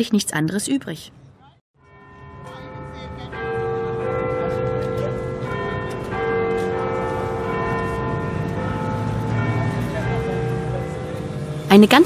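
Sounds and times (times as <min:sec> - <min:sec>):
bells chiming: 0:01.8 - 0:12.0.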